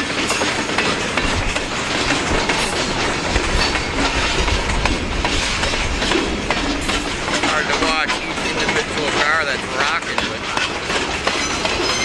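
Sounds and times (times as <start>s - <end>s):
clacks over rail joints: 0.0s - 12.0s
freight car wheels rumbling on rail: 0.0s - 12.0s.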